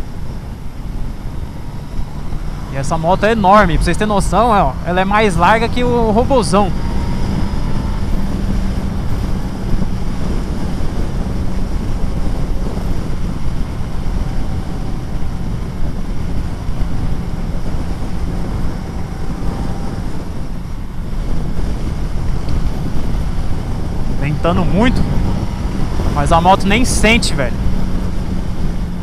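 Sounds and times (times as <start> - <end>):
motorcycle engine cruising: 0.0 - 29.0
wind rush over microphone: 0.0 - 29.0.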